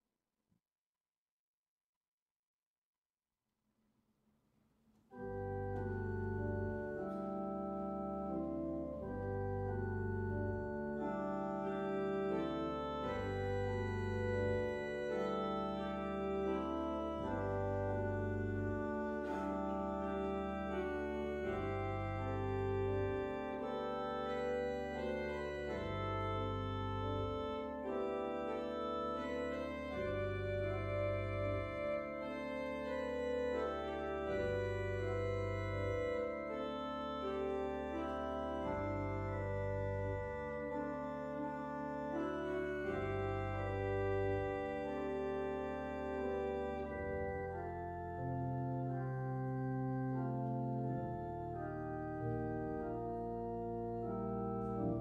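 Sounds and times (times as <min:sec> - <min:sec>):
pipe organ chords: 0:05.1 - 0:55.0.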